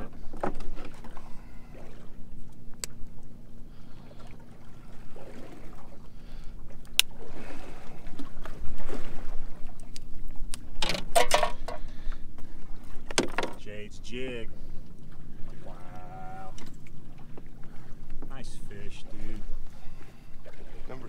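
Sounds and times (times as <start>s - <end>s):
low motor hum: 0.0s - 21.0s
water noise: 0.0s - 21.0s
wind: 0.0s - 21.0s.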